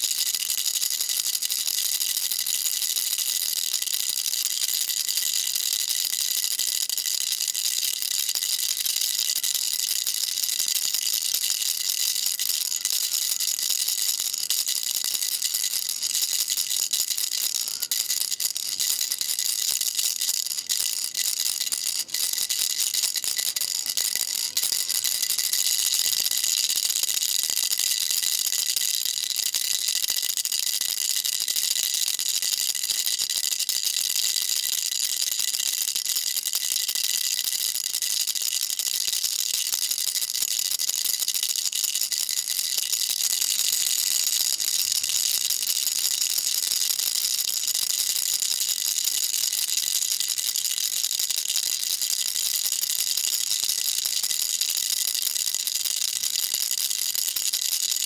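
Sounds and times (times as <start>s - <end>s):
baby rattle shaking: 0.1s - 33.6s, 36.2s - 58.0s.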